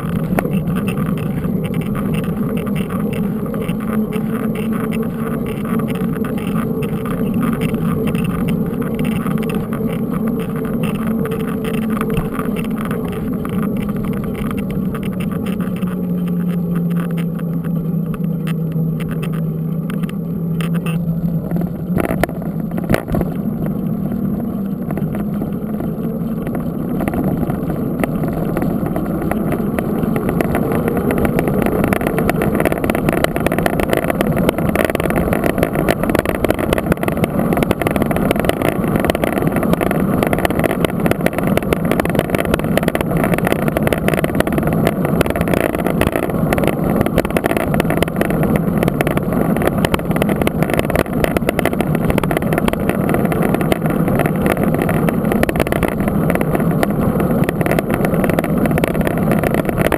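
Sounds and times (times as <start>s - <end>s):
bike tyre rolling on asphalt: 0.0s - 59.9s
wind on microphone: 0.0s - 59.9s.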